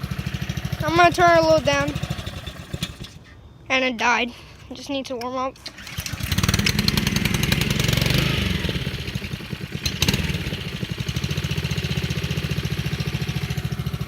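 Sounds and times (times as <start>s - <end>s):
lawn mower engine running: 0.0s - 3.3s, 5.6s - 14.0s.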